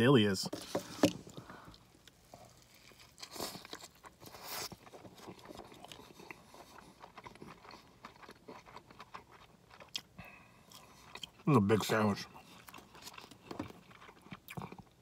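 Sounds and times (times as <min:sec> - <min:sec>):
biting and chewing a sandwich: 0:00.6 - 0:15.0.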